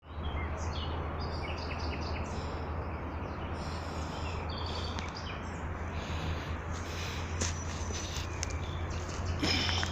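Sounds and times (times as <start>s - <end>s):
small birds chirping and trilling: 0.0s - 9.9s
steady low rumble: 0.0s - 9.9s.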